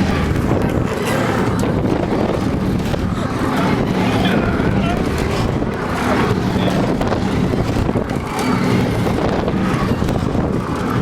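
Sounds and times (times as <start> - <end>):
amusement ride rumbling: 0.0 - 11.0
wind on microphone: 0.0 - 11.0.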